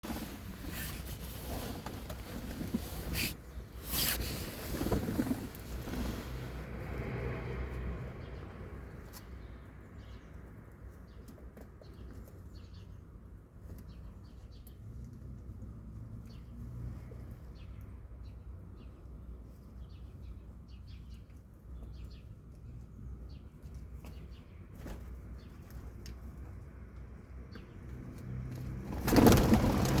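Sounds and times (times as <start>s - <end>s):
low city rumble: 0.0s - 30.0s.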